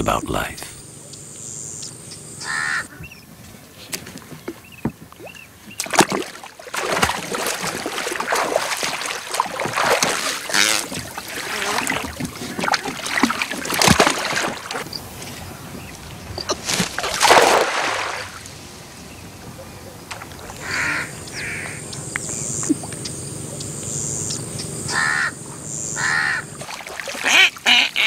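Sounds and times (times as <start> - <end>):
water splashing around boat: 3.4 - 23.1, 24.7 - 28.0.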